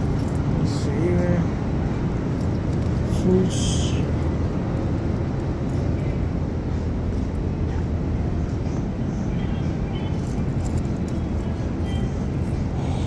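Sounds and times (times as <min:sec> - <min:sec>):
low rumbling shop background noise: 0:00.0 - 0:13.0.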